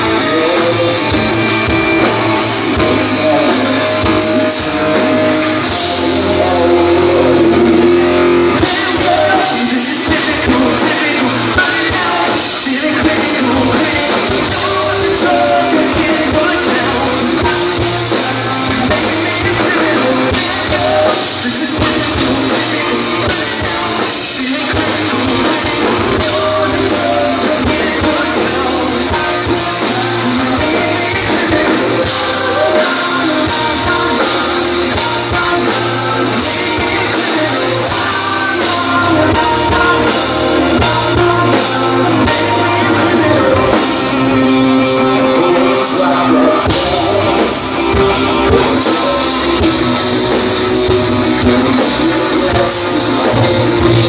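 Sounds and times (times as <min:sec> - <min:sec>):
drum kit: 0:00.0 - 0:54.0
electric guitars: 0:00.0 - 0:54.0
lead singer: 0:00.0 - 0:54.0.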